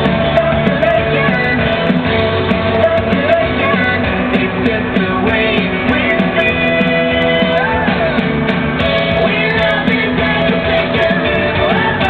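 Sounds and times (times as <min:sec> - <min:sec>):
song with singing voice: 0:00.0 - 0:12.0.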